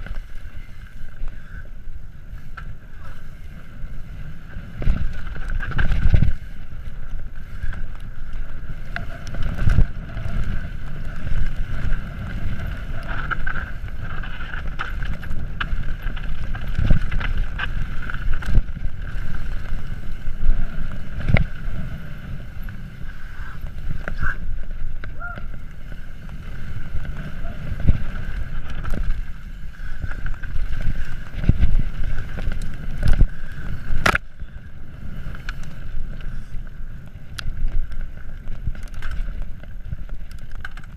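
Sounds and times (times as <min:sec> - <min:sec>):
bike rattling: 0:00.0 - 0:40.9
wind buffeting microphone: 0:03.8 - 0:40.9
bike knocking on bumps: 0:04.3 - 0:40.9.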